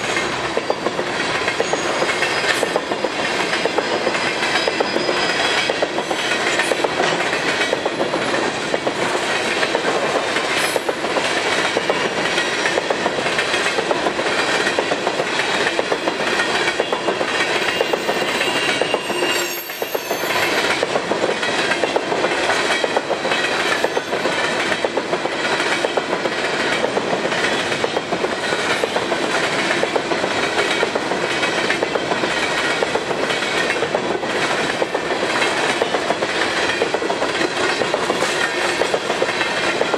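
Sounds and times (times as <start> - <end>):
train wheels clacking on rail joints: 0.0 - 39.9.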